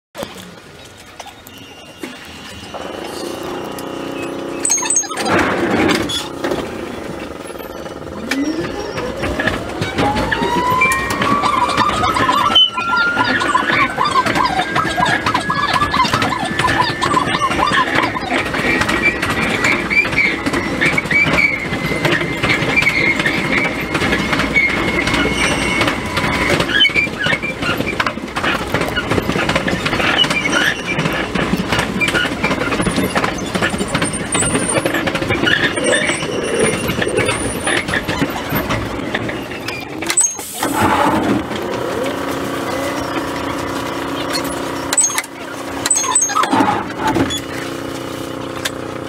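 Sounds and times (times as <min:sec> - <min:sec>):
standing train humming: 0:00.2 - 0:49.0
wheels clattering on rails: 0:00.2 - 0:49.0
electric train motor whine: 0:00.6 - 0:49.0.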